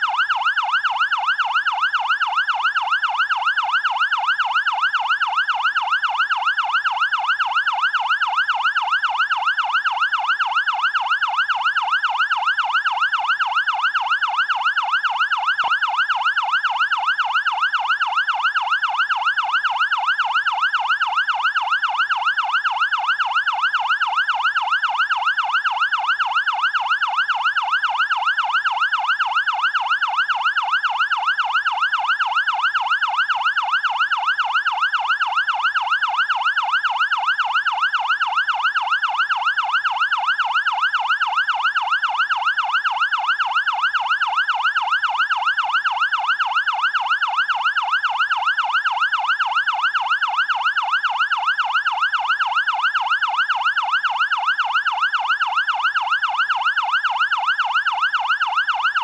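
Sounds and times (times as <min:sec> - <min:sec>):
fire engine siren yelping: 0:00.0 - 0:59.0.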